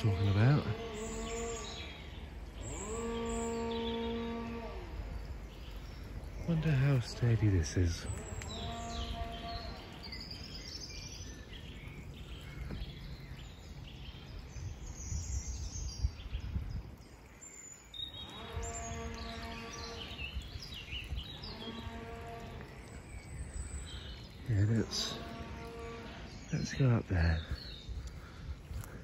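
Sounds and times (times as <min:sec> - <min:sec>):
low microphone rumble: 0:00.0 - 0:29.0
songbirds chirping: 0:00.0 - 0:29.0.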